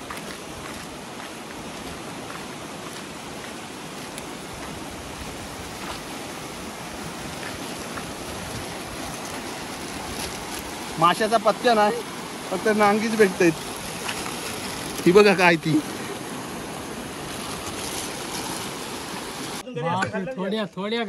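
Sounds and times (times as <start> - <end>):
river water rushing: 0.0 - 19.6.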